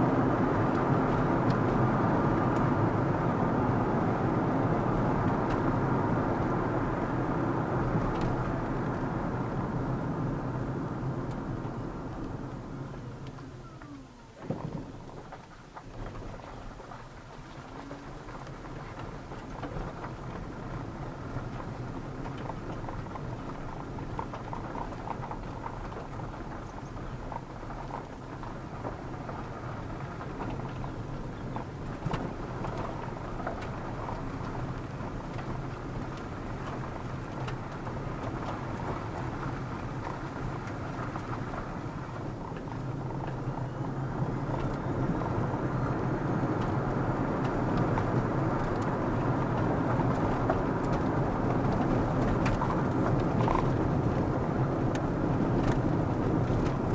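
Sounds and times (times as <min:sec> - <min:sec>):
car road and engine noise: 0:00.0 - 0:56.9.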